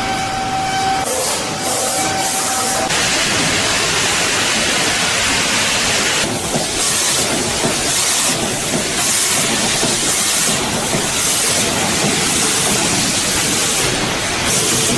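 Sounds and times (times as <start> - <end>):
factory machinery hiss: 0.0 - 14.9.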